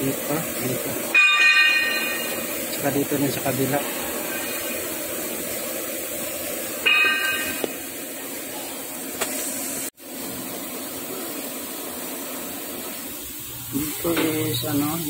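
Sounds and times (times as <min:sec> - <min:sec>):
metal lathe whirring hiss: 0:00.0 - 0:15.0.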